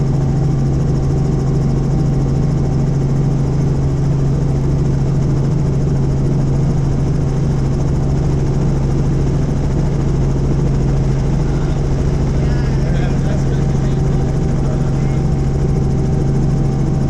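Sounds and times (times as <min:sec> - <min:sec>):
helicopter rotor and turbine drone: 0:00.0 - 0:17.0.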